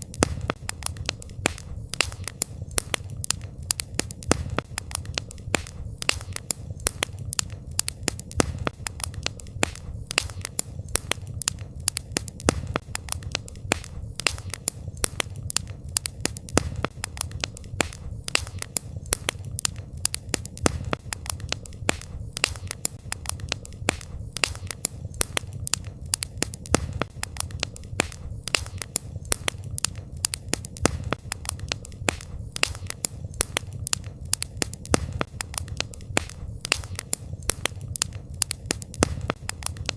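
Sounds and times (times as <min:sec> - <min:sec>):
campfire crackling and popping: 0:00.0 - 0:39.9
low rumble of burning fire: 0:00.0 - 0:39.9.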